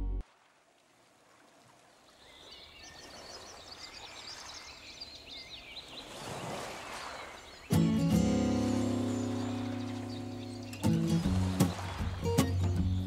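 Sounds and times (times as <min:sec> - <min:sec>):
songbird twittering: 0:02.2 - 0:13.0.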